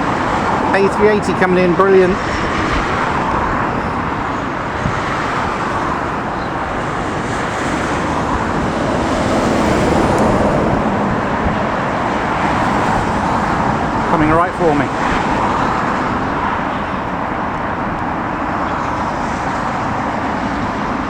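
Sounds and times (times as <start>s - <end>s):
jet engines on approach: 0.0s - 21.0s
wind buffeting microphone: 0.0s - 21.0s.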